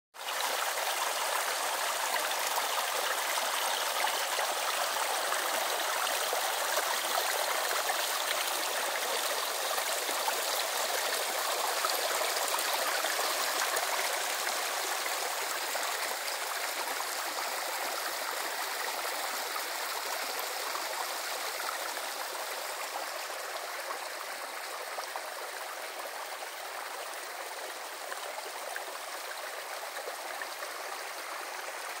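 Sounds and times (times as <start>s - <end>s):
brook babbling over stones: 0.2s - 32.0s.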